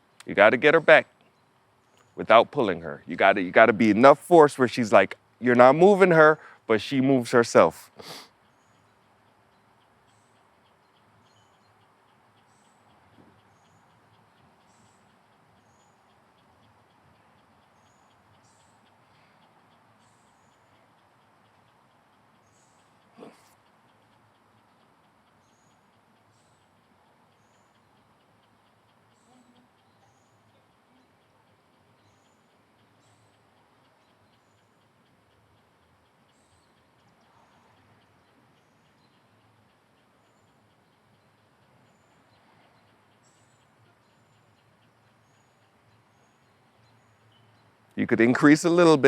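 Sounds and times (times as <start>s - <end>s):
soft ticking: 0.0s - 49.0s.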